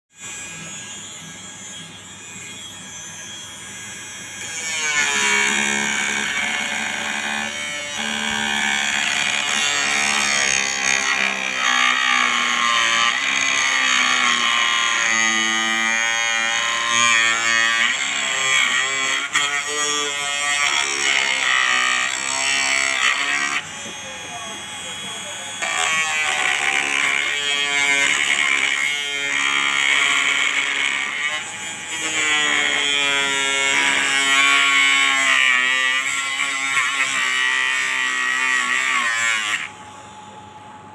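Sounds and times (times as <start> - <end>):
angle grinder whining: 0.2 - 40.9.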